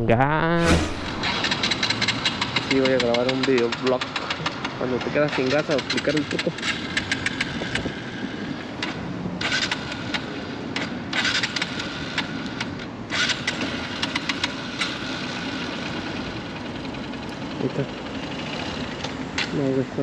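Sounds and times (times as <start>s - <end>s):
motorcycle engine running rough: 1.2s - 20.0s.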